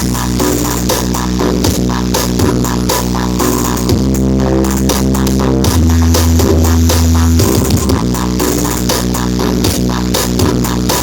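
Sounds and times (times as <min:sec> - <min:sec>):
booming bass line: 0:00.0 - 0:11.0
loud electronic dance music: 0:00.0 - 0:11.0.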